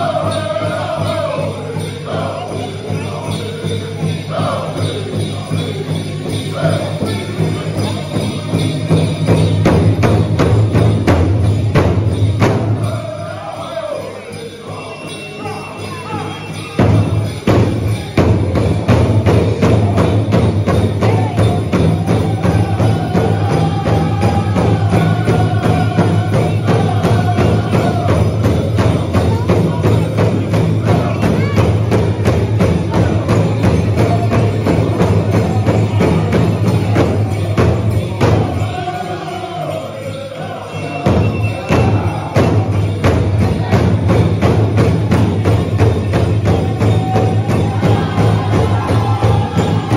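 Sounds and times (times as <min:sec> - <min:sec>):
high group singing: 0:00.0 - 0:09.0, 0:10.4 - 0:49.9
large drum beating: 0:04.0 - 0:13.1, 0:16.8 - 0:38.9, 0:41.0 - 0:49.9.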